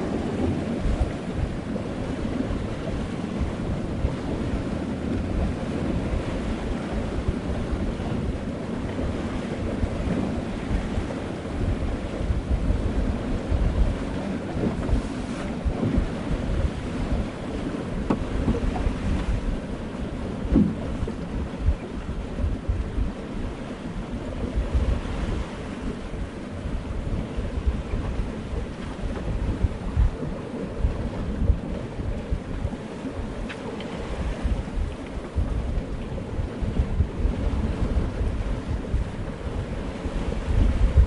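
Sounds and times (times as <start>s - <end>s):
sea water rushing: 0.0s - 41.0s
wind buffeting microphone: 0.0s - 41.0s.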